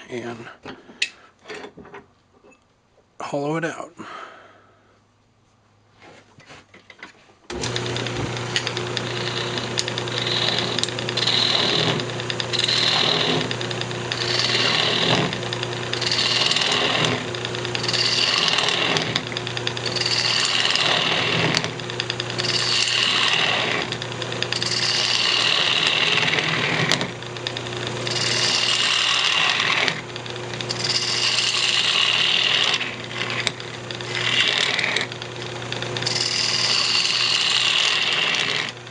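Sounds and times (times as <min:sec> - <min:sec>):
gouge cutting wood: 0:07.5 - 0:38.9
wood lathe motor hum: 0:07.5 - 0:38.9.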